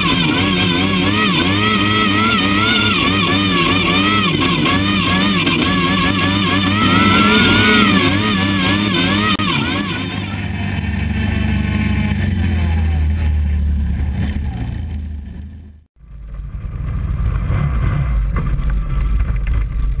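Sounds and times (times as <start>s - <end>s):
quad engine driving through snow: 0.0s - 20.0s.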